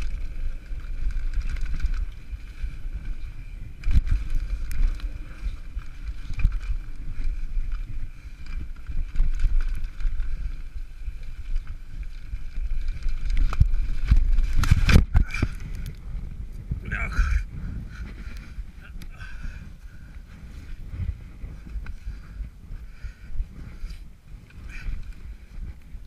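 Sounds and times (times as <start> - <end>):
bike chain and fork clattering: 0.0 - 26.0
mountain bike rattling on dirt trail: 0.0 - 26.0
wind rushing over microphone: 0.0 - 26.0.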